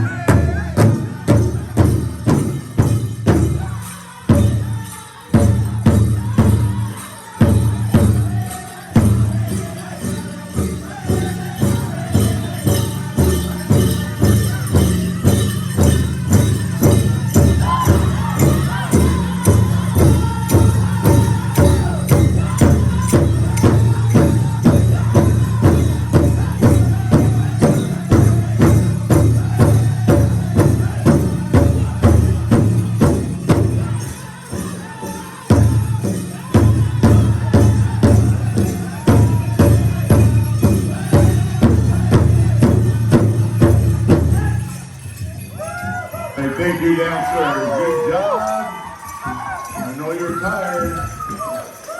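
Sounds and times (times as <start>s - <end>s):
men singing: 0.0s - 51.9s.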